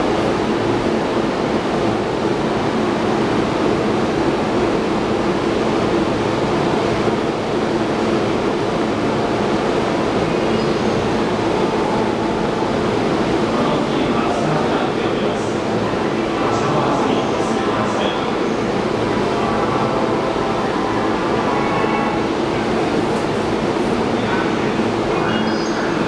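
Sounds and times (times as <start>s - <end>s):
steady rushing noise: 0.0s - 25.2s.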